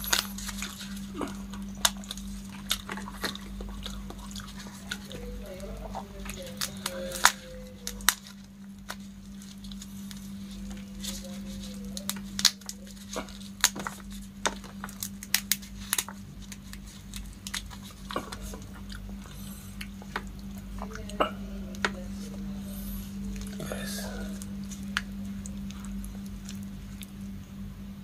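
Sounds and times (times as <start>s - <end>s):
prawn shell cracking and snapping: 0.0s - 22.5s, 23.1s - 27.4s
steady low hum: 0.0s - 28.0s.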